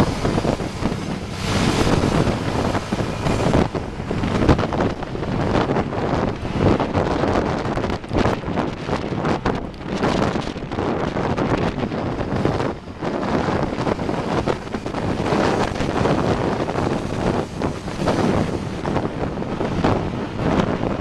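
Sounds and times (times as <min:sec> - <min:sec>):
low rumble of road traffic: 0:00.0 - 0:21.0
wind buffeting microphone: 0:00.0 - 0:21.0.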